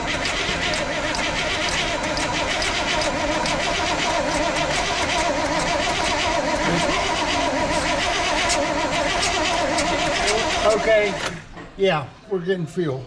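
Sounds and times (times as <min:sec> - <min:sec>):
engine cranking on starter motor: 0:00.0 - 0:11.6.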